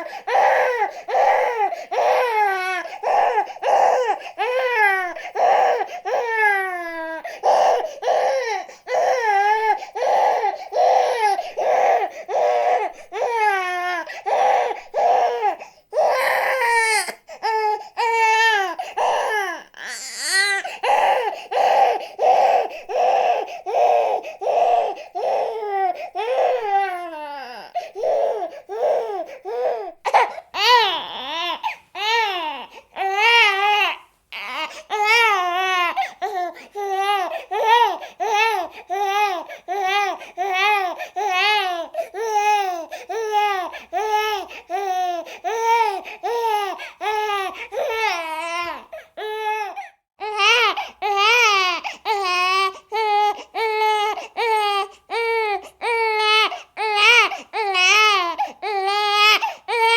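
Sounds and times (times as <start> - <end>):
baby crying: 0.0 - 59.9.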